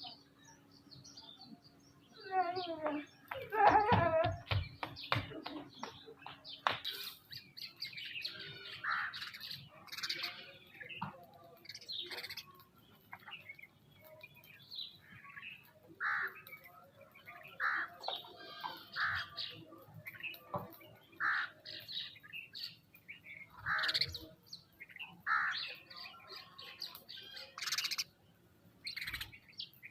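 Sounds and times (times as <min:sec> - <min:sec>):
birds chirping and calling: 0:00.0 - 0:29.9.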